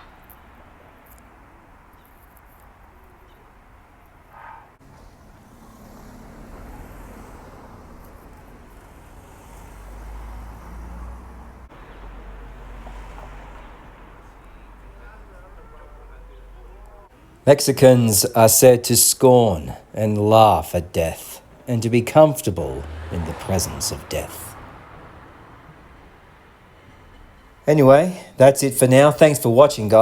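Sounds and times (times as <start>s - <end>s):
street noise: 0.0s - 30.0s
traffic rumble: 0.0s - 30.0s.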